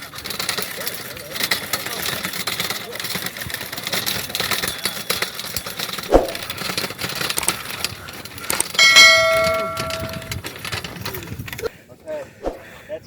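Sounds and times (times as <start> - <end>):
equipment clattering and knocking: 0.2 - 11.6.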